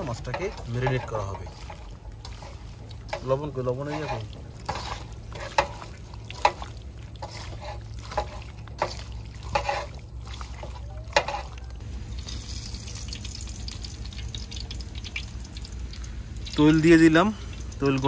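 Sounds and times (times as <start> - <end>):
fish kneaded by hand squelching: 0.0 - 16.0
oil trickling into a wok: 0.0 - 18.0.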